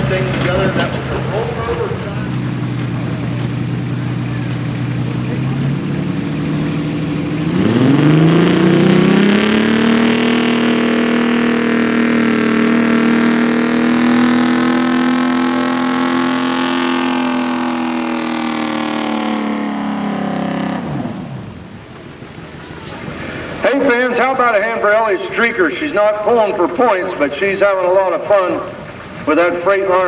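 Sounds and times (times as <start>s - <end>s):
diesel truck engine revving: 0.0s - 30.0s.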